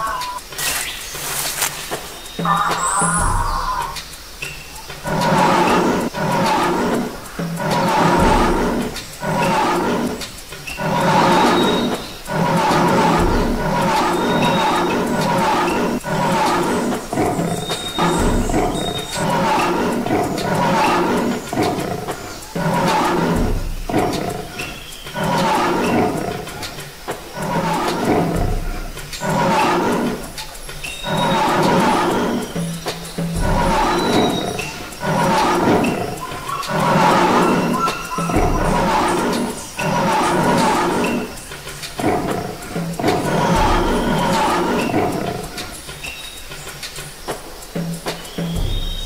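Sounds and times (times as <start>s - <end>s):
lion roaring: 0.0s - 0.4s, 1.6s - 4.0s, 4.9s - 45.7s.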